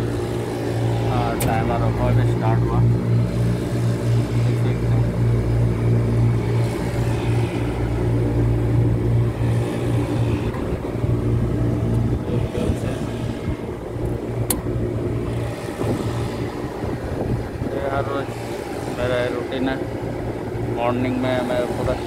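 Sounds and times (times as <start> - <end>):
chiller compressor hum: 0.0 - 22.0.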